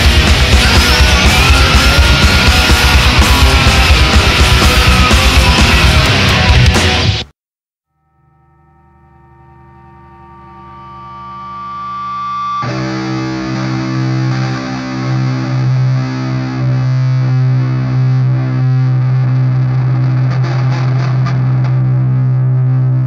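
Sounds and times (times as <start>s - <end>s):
distorted electric guitar droning: 0.0s - 7.3s, 8.0s - 23.0s.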